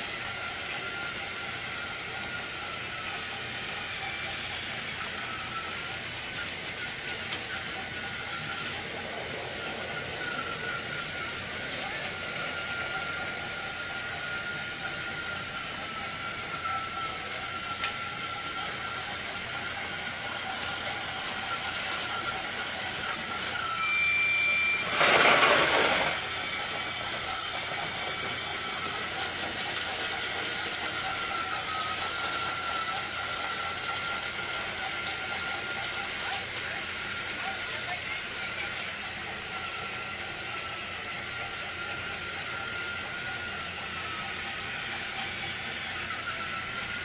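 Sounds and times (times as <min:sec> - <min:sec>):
small motor whining: 0:00.0 - 0:47.0
high whistle tone: 0:00.4 - 0:47.0.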